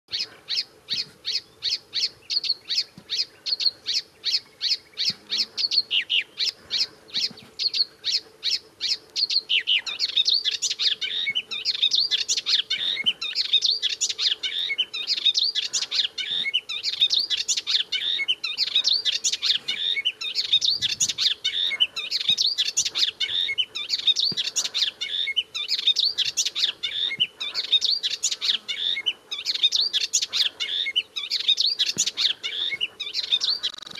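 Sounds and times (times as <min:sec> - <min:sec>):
warbler singing: 0:00.1 - 0:33.9.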